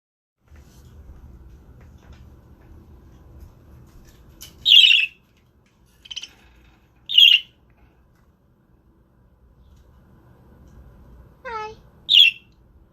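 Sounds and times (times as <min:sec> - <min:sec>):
faint low hum: 0:00.5 - 0:12.9.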